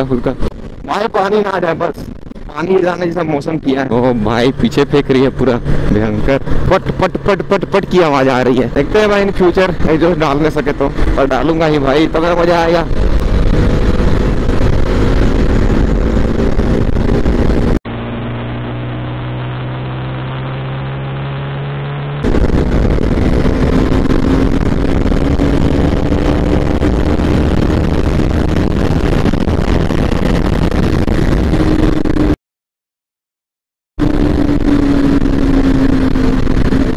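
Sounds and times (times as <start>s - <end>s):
motorcycle engine and exhaust: 0.0s - 32.4s, 34.0s - 36.9s.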